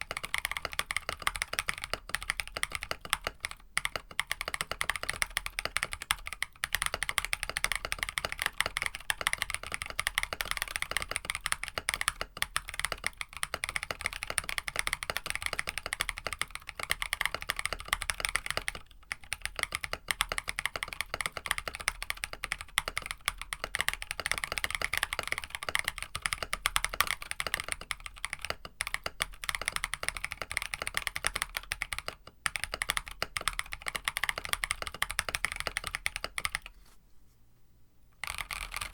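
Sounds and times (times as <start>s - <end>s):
mechanical keyboard typing: 0.0s - 36.8s, 38.2s - 38.9s.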